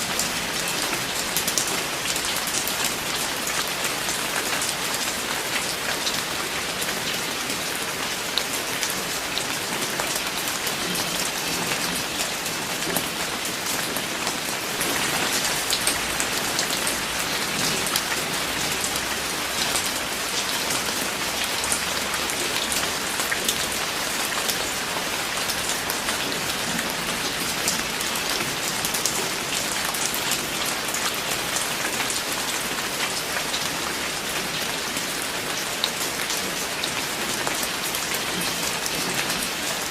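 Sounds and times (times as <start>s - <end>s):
rain hiss: 0.0s - 39.9s
raindrops pattering on hard surface: 0.0s - 39.9s.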